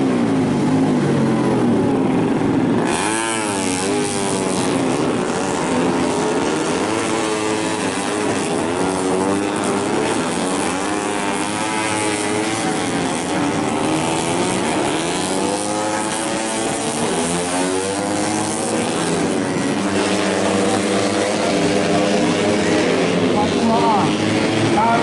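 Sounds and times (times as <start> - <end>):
race motorcycles revving: 0.0 - 25.0.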